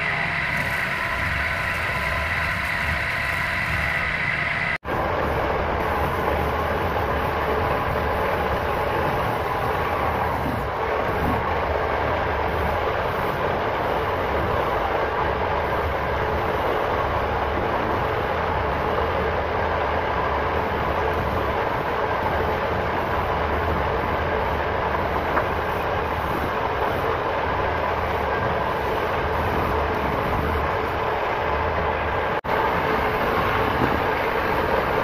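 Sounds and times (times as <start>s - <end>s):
sanding drum spinning: 0.0s - 35.0s.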